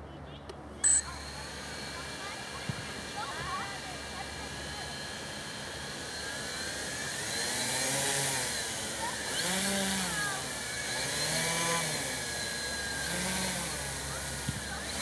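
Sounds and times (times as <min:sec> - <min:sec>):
drone motors and propellers buzzing: 0:00.8 - 0:15.0.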